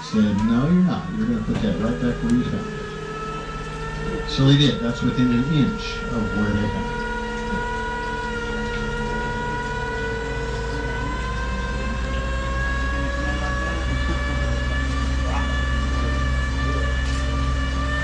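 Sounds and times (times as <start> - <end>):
boat motor whining: 0.0 - 18.0.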